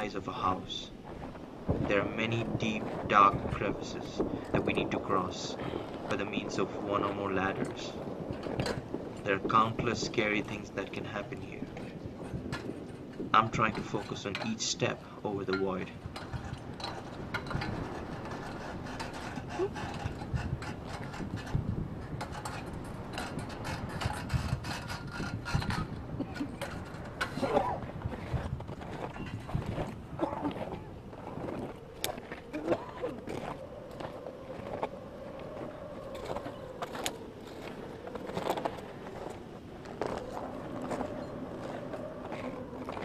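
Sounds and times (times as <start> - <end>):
sharp creaks and clicks: 0.0 - 43.0
steady wavering hum: 0.0 - 43.0.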